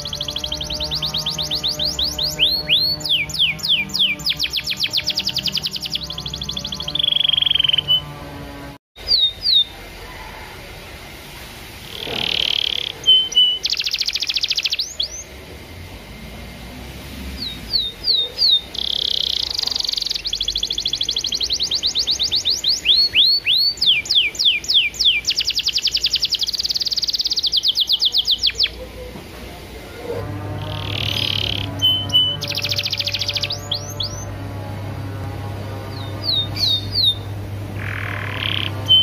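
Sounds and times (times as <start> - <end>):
canary singing trills: 0.0 - 10.0, 11.9 - 15.4, 17.3 - 29.0, 30.4 - 39.0.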